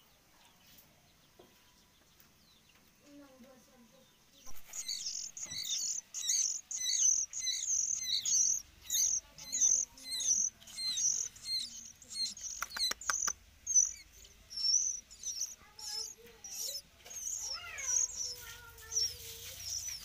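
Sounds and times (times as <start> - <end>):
nestlings chirping: 1.9 - 20.0.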